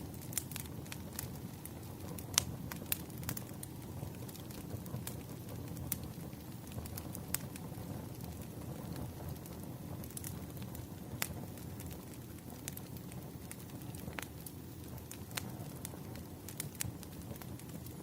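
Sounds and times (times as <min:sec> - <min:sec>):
campfire flames rumbling: 0:00.0 - 0:18.0
fire crackling pops: 0:00.0 - 0:18.0.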